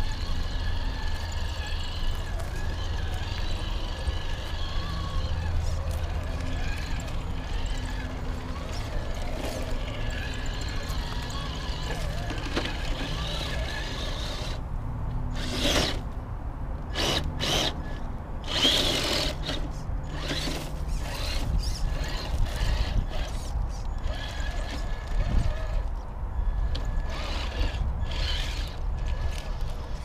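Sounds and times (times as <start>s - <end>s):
toy truck motor and gears whining: 0.0s - 14.7s, 15.3s - 16.2s, 16.9s - 30.0s.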